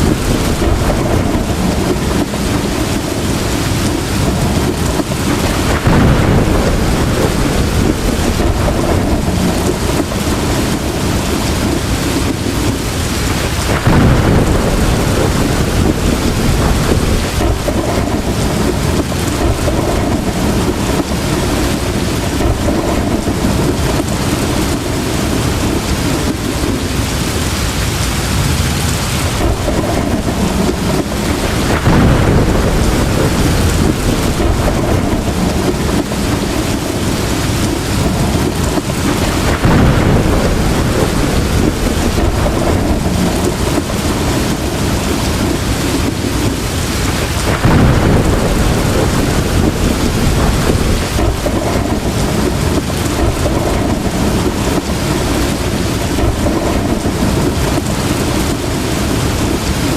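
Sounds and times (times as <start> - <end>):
heavy rain pouring: 0.0 - 59.9
rolling thunder: 0.0 - 59.9.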